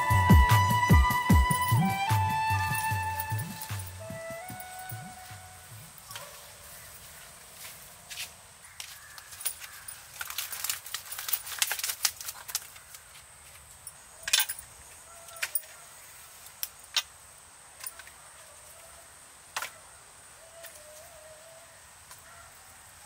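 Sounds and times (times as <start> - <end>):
faint high hiss: 0.0 - 23.0.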